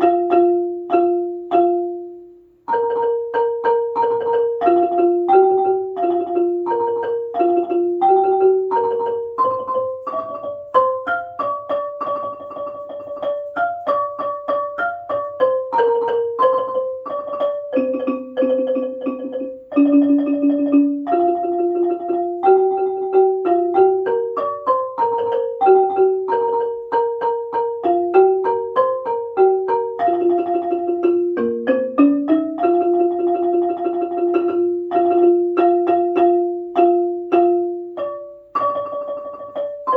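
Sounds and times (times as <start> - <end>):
xylophone played fast: 0.0 - 39.9.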